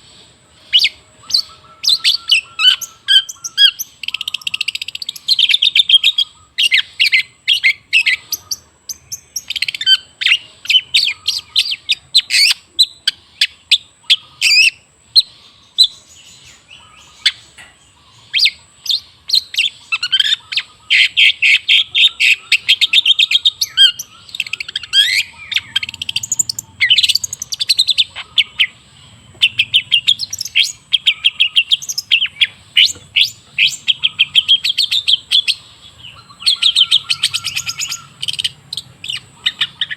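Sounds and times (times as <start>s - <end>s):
shrike singing chattering song: 0.0s - 39.9s.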